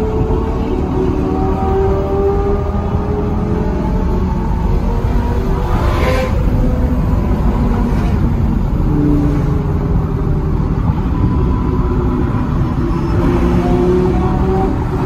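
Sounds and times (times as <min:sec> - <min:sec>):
car engine rumble: 0:00.0 - 0:15.0
road noise inside car: 0:00.0 - 0:15.0.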